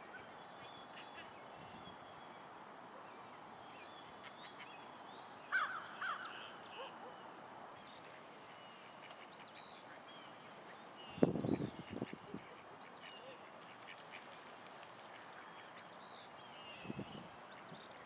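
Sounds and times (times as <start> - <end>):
bird calls: 0.0 - 2.4, 3.0 - 18.0
steady background hiss: 0.0 - 18.0.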